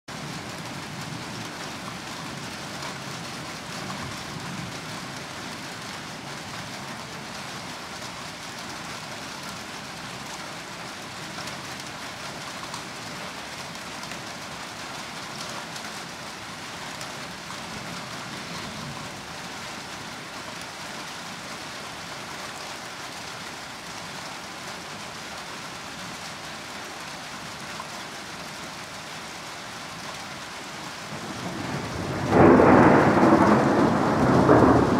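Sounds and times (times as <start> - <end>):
steady rain hissing: 0.1 - 34.9.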